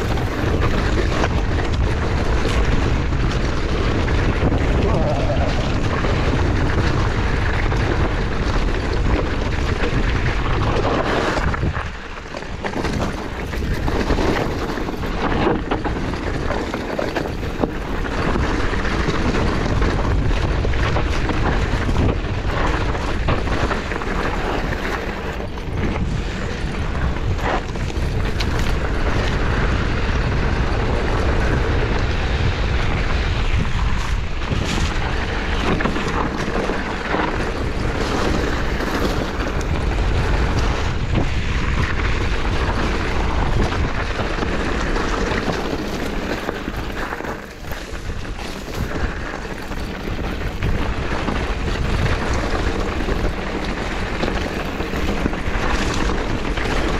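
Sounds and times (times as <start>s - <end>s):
bike clicks and rattles: 0.0s - 56.9s
tyres rolling on dirt: 0.0s - 56.9s
wind rushing over microphone: 0.0s - 56.9s.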